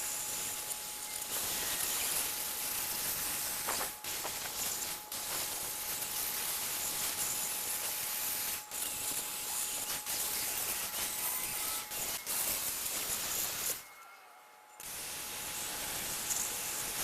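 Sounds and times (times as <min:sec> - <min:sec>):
high-pressure spray hissing: 0:00.0 - 0:14.0, 0:14.8 - 0:17.0.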